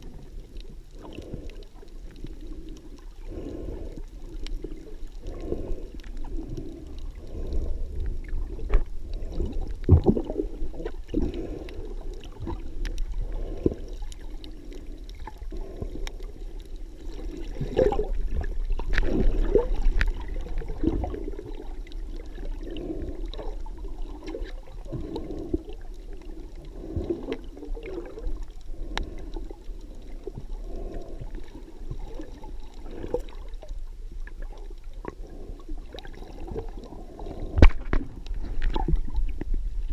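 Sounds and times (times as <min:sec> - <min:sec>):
underwater sloshing and gurgling: 0:00.0 - 0:39.9.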